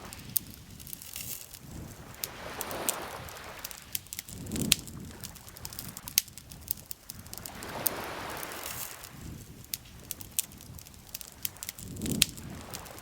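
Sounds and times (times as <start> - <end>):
campfire crackling and popping: 0.0 - 13.0
water lapping gently: 0.0 - 13.0.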